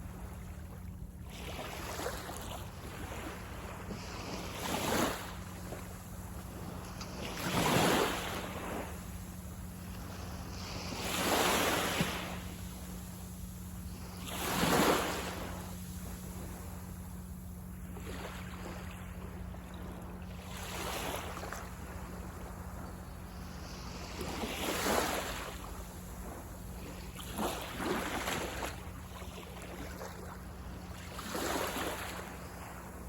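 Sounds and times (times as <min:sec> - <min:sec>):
small waves breaking on beach: 0:00.0 - 0:33.0
steady low rumble: 0:00.0 - 0:33.0.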